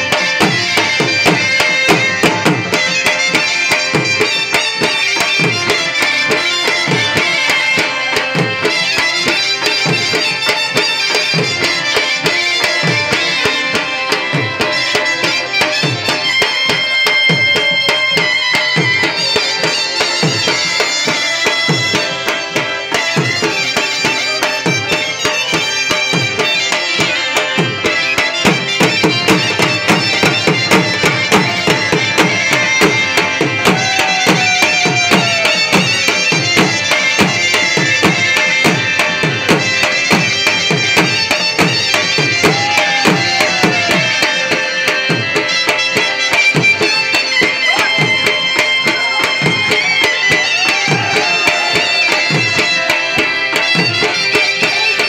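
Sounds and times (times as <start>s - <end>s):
drum beating: 0.0s - 55.0s
high held melody: 0.0s - 55.0s.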